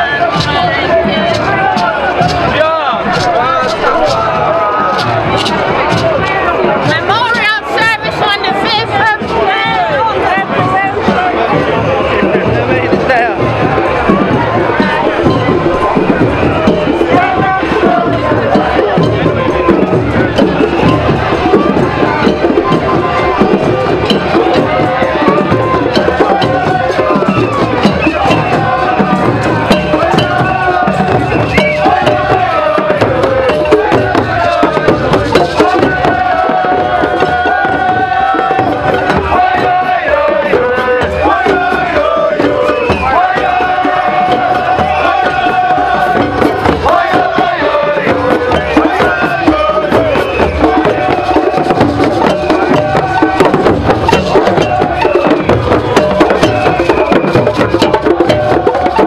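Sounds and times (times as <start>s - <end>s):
crowd singing together: 0.0s - 59.0s
hand drum beats: 0.0s - 59.0s.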